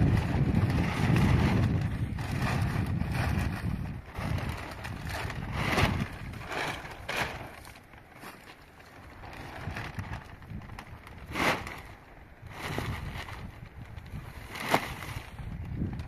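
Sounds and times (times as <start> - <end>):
wind buffeting microphone: 0.0 - 8.1, 8.9 - 16.0
plastic sheeting rustling: 0.0 - 16.0.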